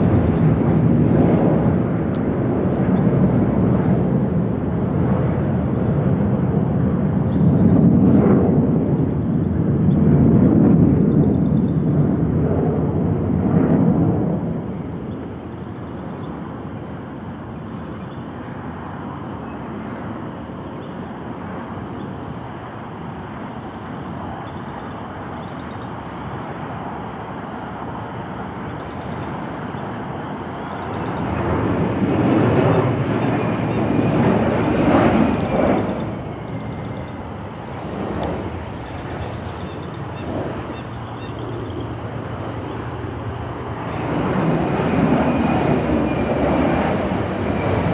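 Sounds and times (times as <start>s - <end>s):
jet engine rumble: 0.0s - 47.9s.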